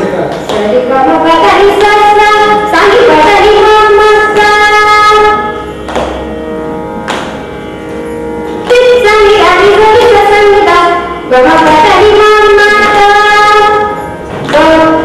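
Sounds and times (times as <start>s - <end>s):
steady drone: 0.0s - 15.0s.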